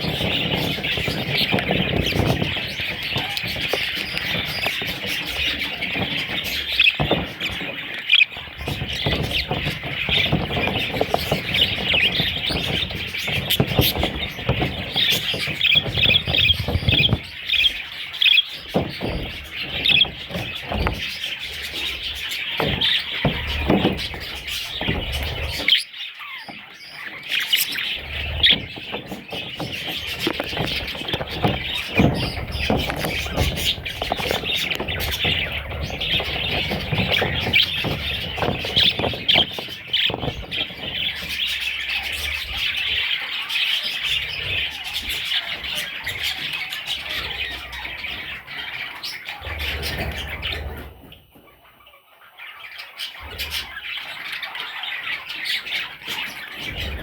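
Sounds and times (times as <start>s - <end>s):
knocks and rustling: 0.0s - 51.7s, 55.0s - 57.0s
budgerigars chirping and chattering: 0.0s - 57.0s.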